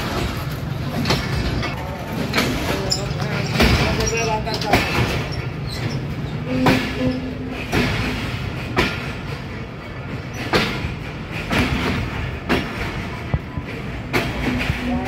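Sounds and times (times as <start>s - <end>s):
train running rumble: 0.0s - 15.0s
wheels clacking over rail joints: 0.0s - 15.0s.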